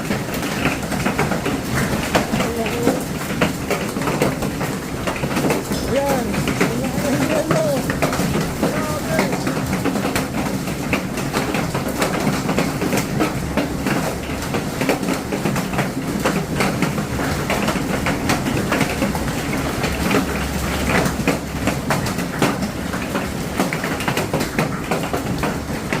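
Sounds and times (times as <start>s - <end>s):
hail pelting hard surfaces: 0.0s - 26.0s.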